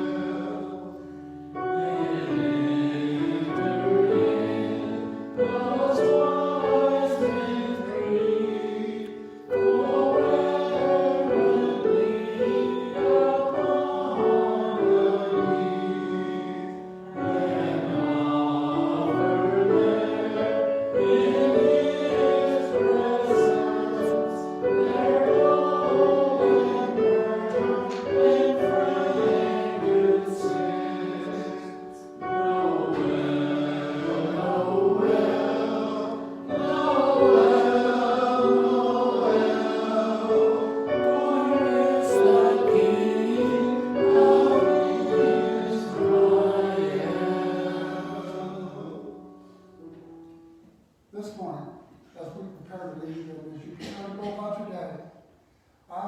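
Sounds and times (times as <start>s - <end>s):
choir singing church music: 0.0s - 56.0s.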